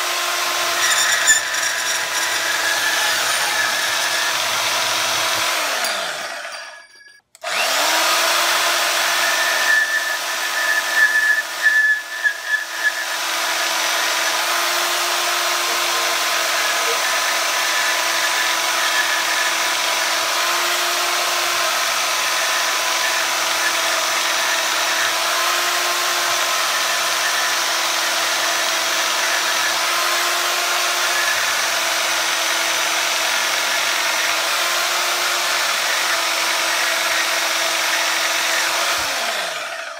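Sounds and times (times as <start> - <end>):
bandsaw motor whining: 0.0 - 39.9
saw blade cutting wood: 0.0 - 39.9.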